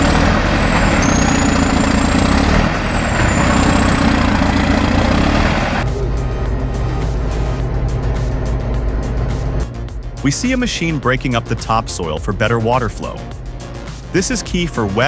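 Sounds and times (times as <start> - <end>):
diesel engine rumbling with whine: 0.0 - 15.0
low hum: 0.0 - 15.0.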